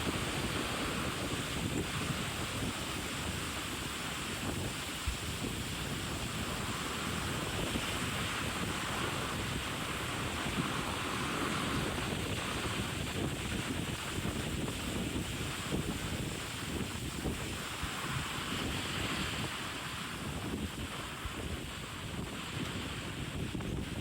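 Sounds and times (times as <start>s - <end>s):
sea water rushing past ship: 0.0s - 24.0s
wind buffeting microphone: 0.0s - 24.0s.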